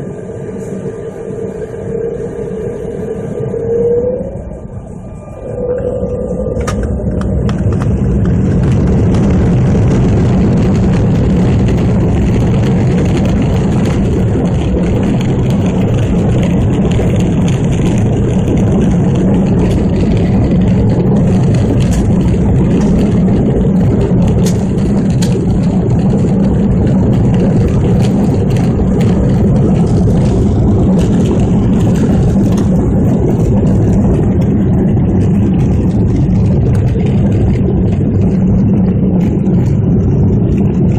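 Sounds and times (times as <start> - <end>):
aircraft engines rumbling: 0.0 - 40.9.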